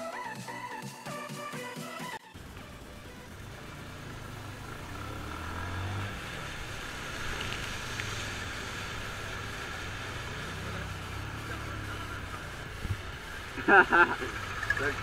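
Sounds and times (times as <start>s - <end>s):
motorcycle engine running: 2.3s - 15.0s
water splashing from wheels: 2.4s - 15.0s.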